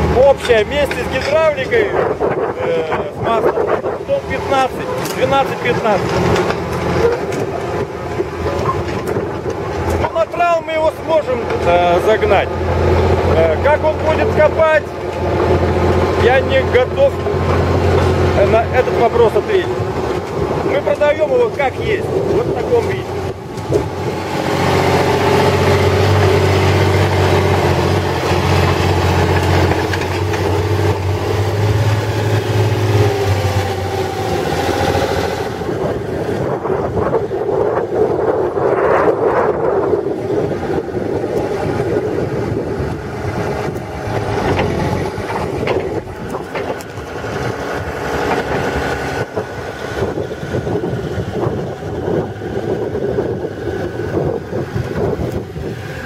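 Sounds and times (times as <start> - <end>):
excavator diesel engine running: 0.0 - 38.6, 39.2 - 56.0.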